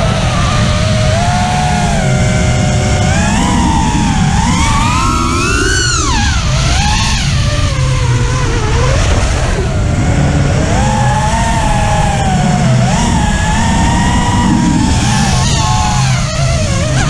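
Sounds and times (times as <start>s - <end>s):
drone motors whining: 0.0s - 17.0s
wind rush and frame vibration: 0.0s - 17.0s.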